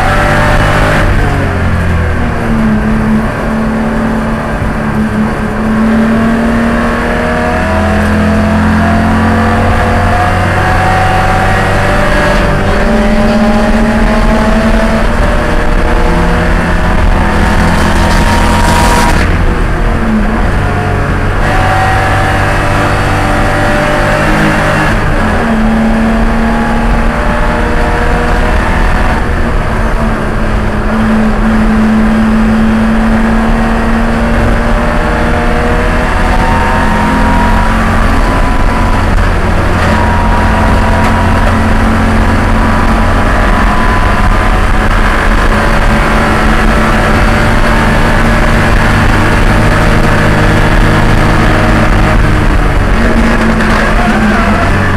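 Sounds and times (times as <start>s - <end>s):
race car engine running hard: 0.0s - 54.9s
road and wind noise: 0.0s - 54.9s.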